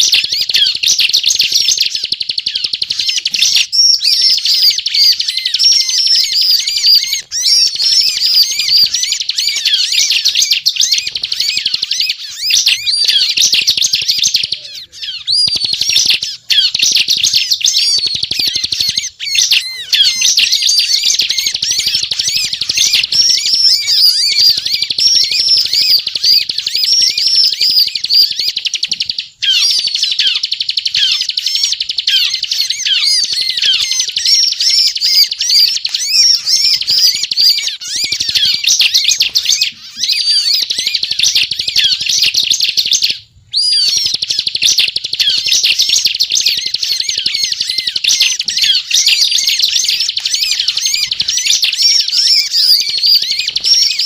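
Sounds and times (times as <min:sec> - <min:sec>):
bird singing high chattering notes: 0:00.0 - 0:54.0.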